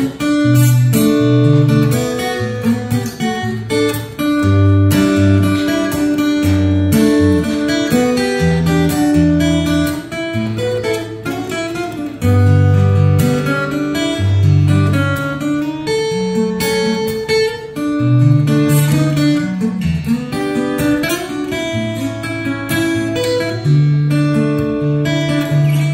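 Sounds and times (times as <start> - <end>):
fingerstyle acoustic guitar: 0.0 - 25.9.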